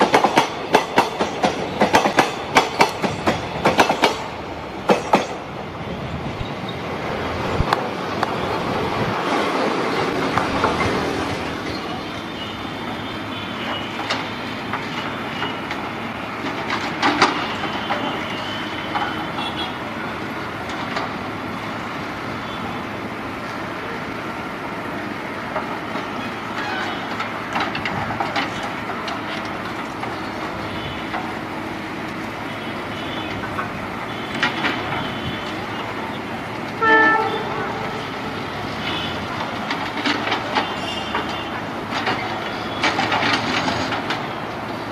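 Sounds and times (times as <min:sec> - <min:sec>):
wheel clacks over rail joints: 0:00.0 - 0:05.5, 0:09.2 - 0:21.6, 0:24.8 - 0:44.9
train rumbling on rails: 0:00.0 - 0:44.9.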